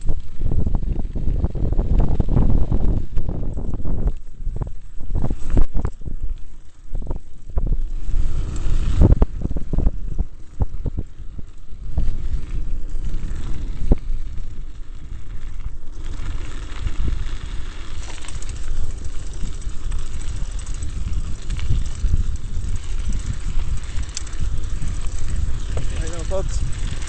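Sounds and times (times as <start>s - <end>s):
bike rattles from bumps: 0.0s - 27.0s
tyres rumbling on gravel: 0.0s - 27.0s
wind buffeting microphone: 0.0s - 27.0s.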